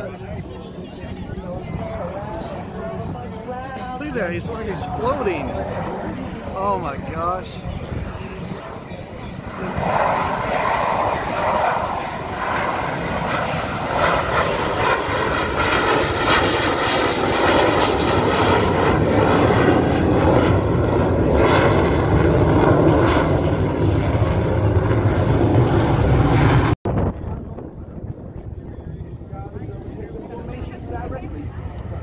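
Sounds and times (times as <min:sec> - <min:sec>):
jet engine flypast: 0:00.0 - 0:32.0.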